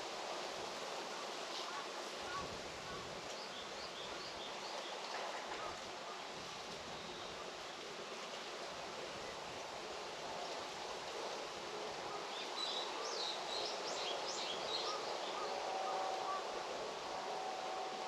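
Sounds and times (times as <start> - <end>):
rural outdoor hiss: 0.0 - 18.0.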